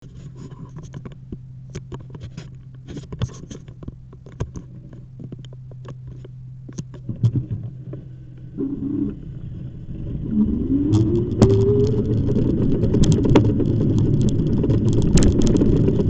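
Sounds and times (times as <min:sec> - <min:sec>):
small clicks and knocks: 0:00.0 - 0:08.0, 0:10.9 - 0:16.0
steady low hum: 0:00.0 - 0:16.0.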